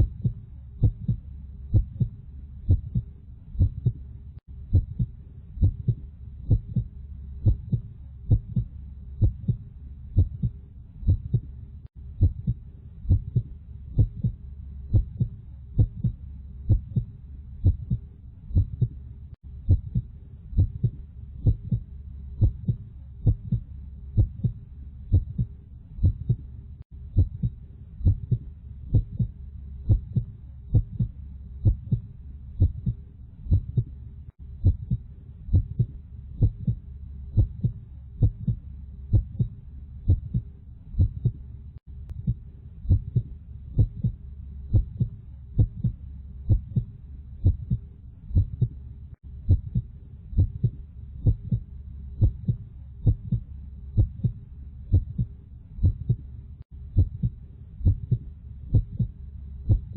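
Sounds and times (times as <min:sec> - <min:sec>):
heartbeat double thump: 0:00.0 - 0:04.0, 0:04.7 - 0:09.6, 0:10.2 - 0:11.5, 0:12.2 - 0:19.0, 0:19.6 - 0:23.6, 0:24.2 - 0:26.4, 0:27.1 - 0:33.9, 0:34.6 - 0:40.4, 0:41.0 - 0:41.4, 0:42.1 - 0:48.7, 0:49.5 - 0:56.2, 0:57.0 - 0:59.9
low continuous hum: 0:00.0 - 0:59.9.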